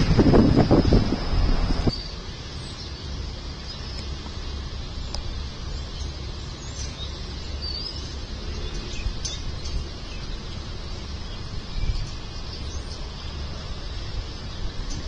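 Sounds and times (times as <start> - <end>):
birds chirping: 0.0 - 4.2, 5.0 - 15.0
steady low rumble: 0.0 - 15.0.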